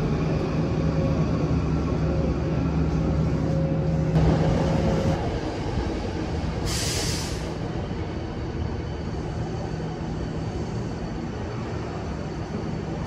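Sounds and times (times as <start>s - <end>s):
electric train droning: 0.0s - 13.0s.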